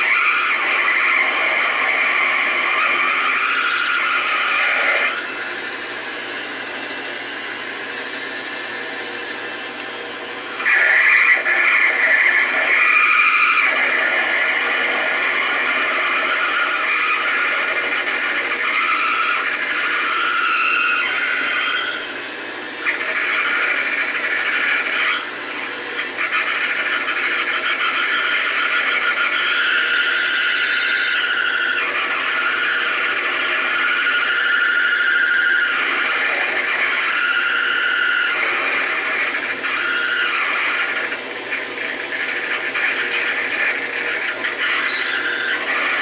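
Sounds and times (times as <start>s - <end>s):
drill bit squealing in metal: 0.0s - 9.6s, 10.4s - 46.0s.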